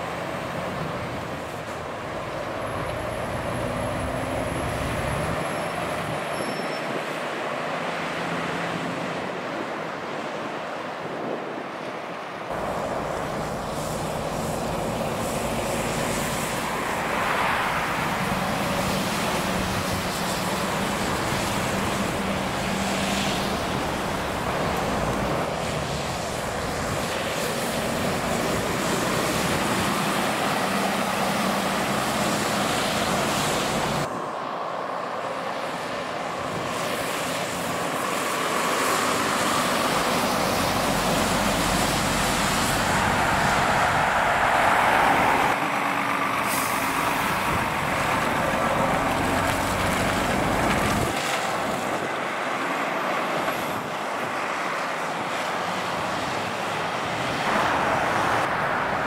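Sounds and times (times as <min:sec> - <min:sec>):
motorway traffic: 0:00.0 - 0:59.0.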